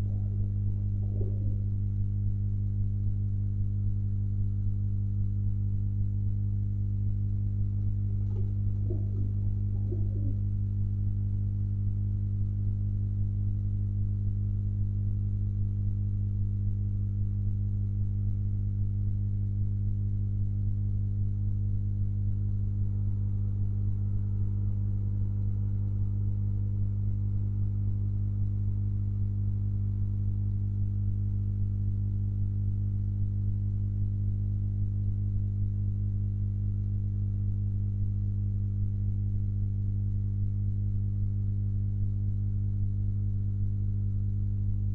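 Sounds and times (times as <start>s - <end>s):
electrical mains hum: 0.0s - 44.9s.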